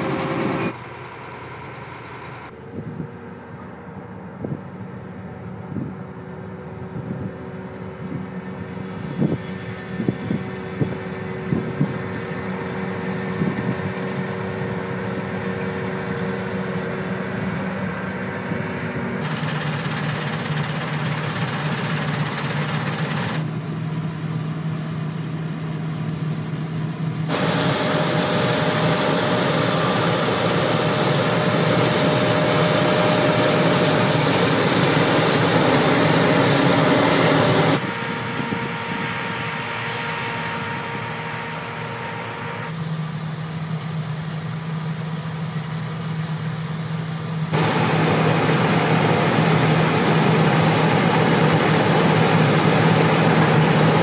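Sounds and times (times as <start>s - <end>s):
threshing machine noise: 0.0s - 2.6s, 5.2s - 45.5s, 47.2s - 54.0s
combine engine hum: 0.0s - 54.0s.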